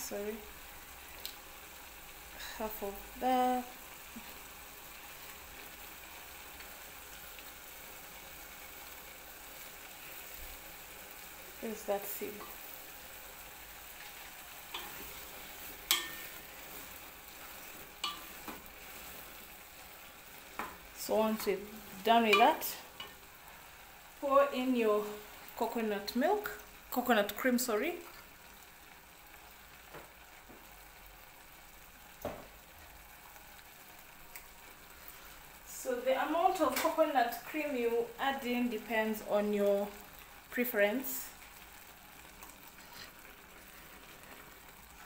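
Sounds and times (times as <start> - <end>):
fish and tomatoes sizzling in pot: 0.0 - 45.0.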